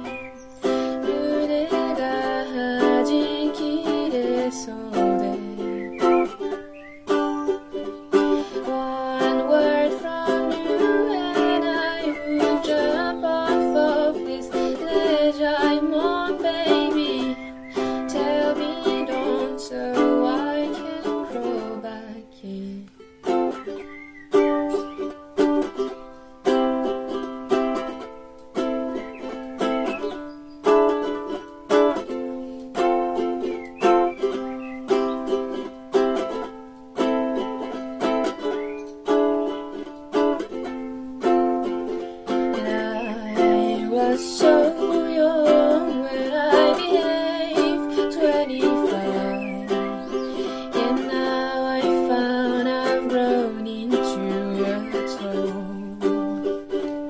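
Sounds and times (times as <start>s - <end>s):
ukulele chords: 0.0s - 57.0s.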